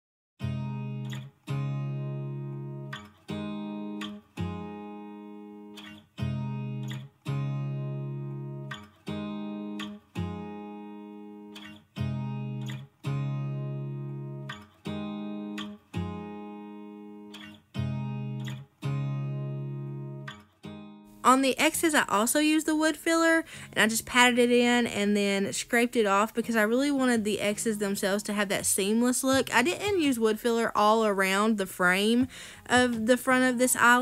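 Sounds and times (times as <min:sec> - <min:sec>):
acoustic guitar strummed chords: 0:00.4 - 0:25.4, 0:26.0 - 0:34.0.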